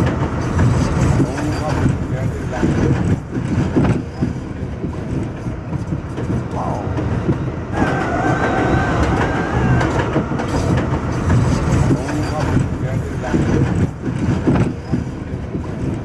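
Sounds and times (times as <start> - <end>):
subway train rumble: 0.0 - 16.0
wheels clacking over rail joints: 0.0 - 16.0.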